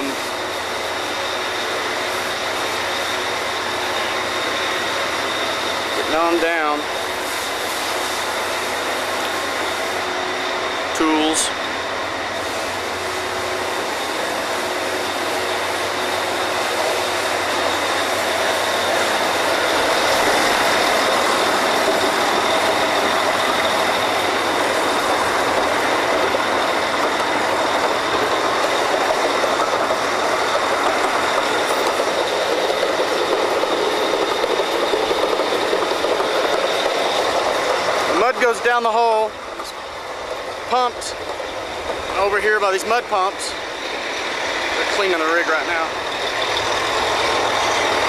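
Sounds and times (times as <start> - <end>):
drilling rig machinery noise: 0.0 - 48.0.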